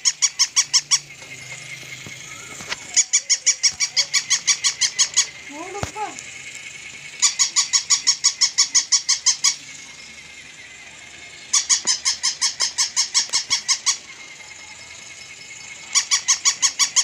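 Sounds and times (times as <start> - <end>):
toy dog electronic barking: 0.0 - 17.0.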